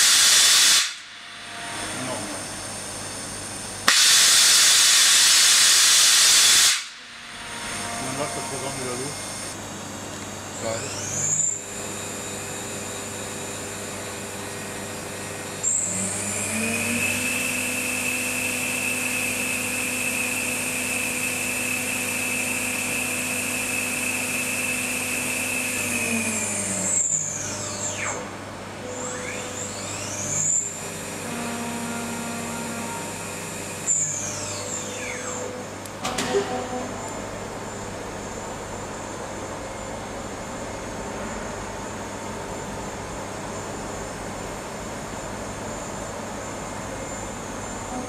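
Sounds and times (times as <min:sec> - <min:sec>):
machining center whine: 0:00.0 - 0:48.0.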